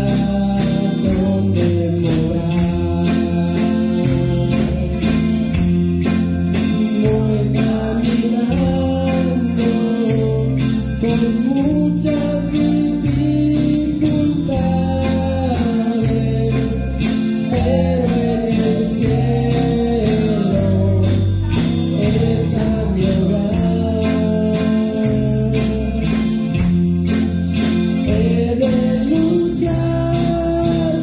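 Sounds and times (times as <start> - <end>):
man singing: 0.0 - 31.0
worship band playing a hymn: 0.0 - 31.0.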